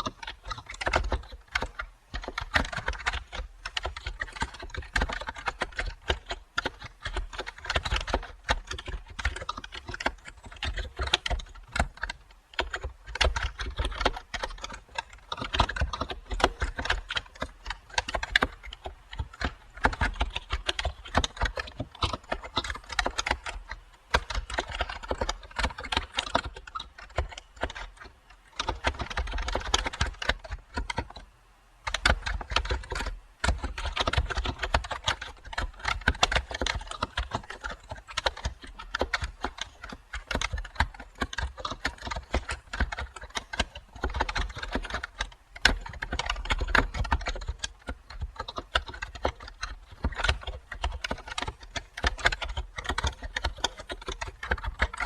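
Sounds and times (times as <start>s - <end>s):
typing on computer keyboard: 0.0s - 55.0s.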